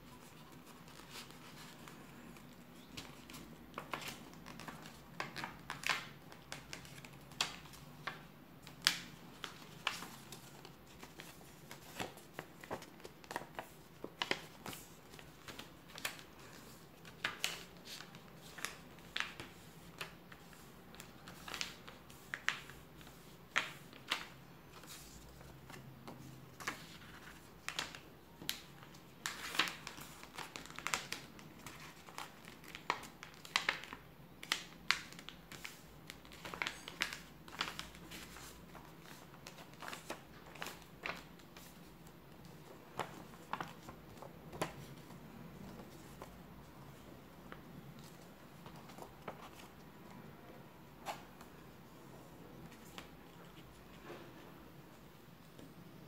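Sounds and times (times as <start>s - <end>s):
paper being folded and creased: 0.1s - 46.4s.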